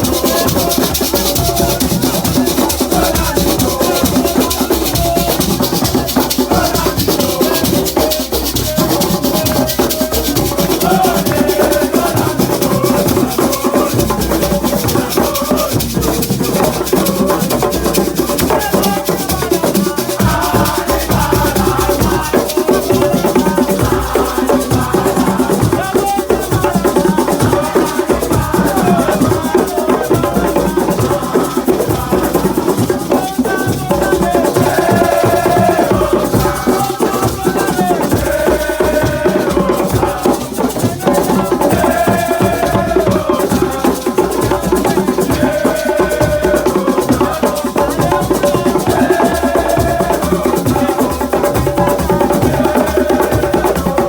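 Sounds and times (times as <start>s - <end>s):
drums and shakers beat: 0.0s - 54.0s.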